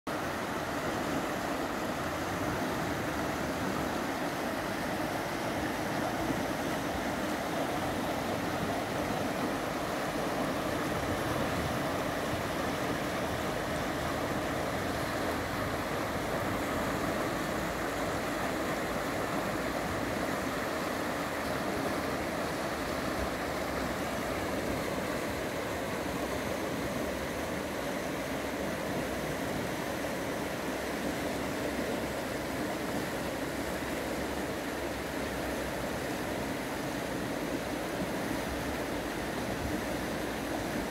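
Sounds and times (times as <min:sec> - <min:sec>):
river rushing over stones: 0:00.1 - 0:40.9.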